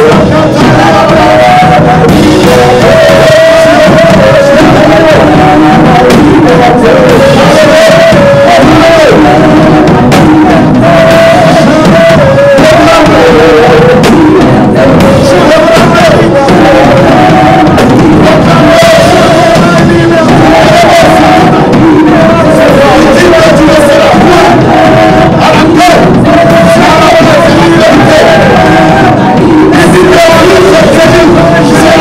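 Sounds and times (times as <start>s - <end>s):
group singing worship song: 0.0s - 32.0s.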